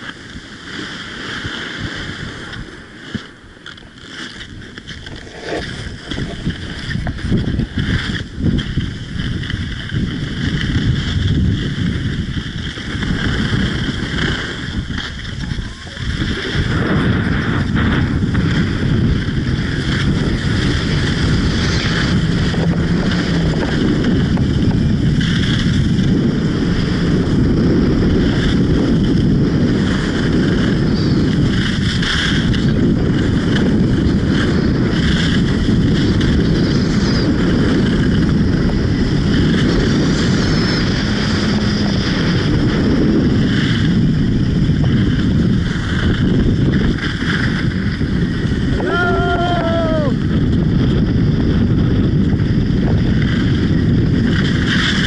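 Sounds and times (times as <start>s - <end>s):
skis scraping over snow: 0.0s - 55.0s
wind buffeting microphone: 0.0s - 55.0s.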